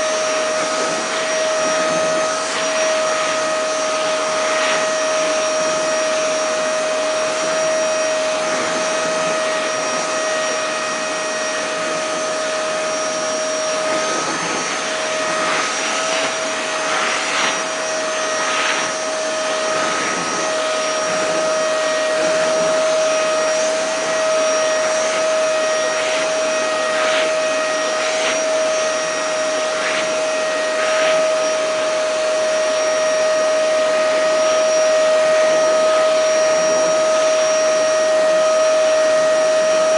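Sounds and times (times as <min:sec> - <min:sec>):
hissing suction rushes: 0:00.0 - 0:38.2
vacuum cleaner running: 0:00.0 - 0:39.9.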